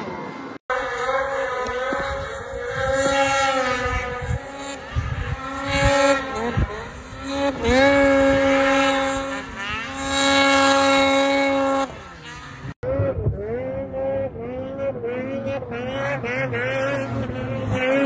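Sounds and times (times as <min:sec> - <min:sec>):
snowmobile engines revving: 0:00.0 - 0:18.0.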